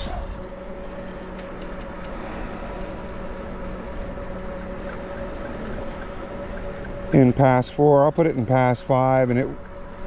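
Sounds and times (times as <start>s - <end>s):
constant hum: 0.0s - 10.0s
electric trike motor and tyres: 0.0s - 10.0s.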